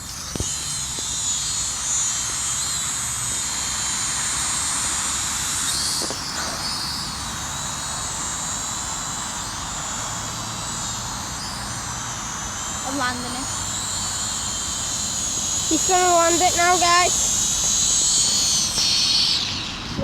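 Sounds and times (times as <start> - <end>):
toy drone propellers whining: 0.0 - 20.0.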